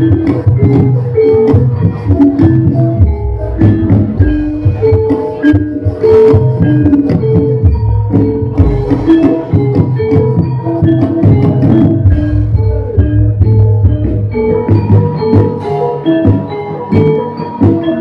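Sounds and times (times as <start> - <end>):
driving drum beats: 0.0 - 18.0
metallophones ringing: 0.0 - 18.0.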